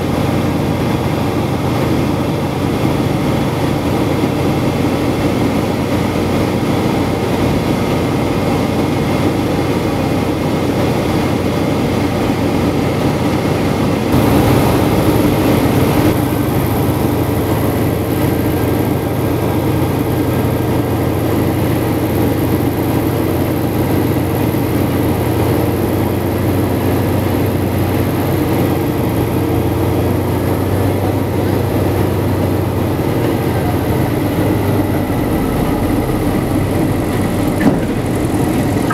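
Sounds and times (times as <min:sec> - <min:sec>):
propeller plane engine in flight: 0:00.0 - 0:38.9.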